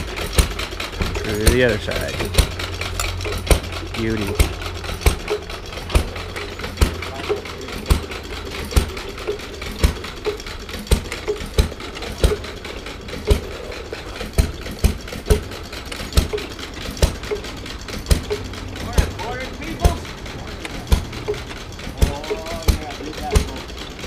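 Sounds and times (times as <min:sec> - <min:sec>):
baler knocking: 0:00.0 - 0:24.0
small engine hum: 0:00.0 - 0:24.0.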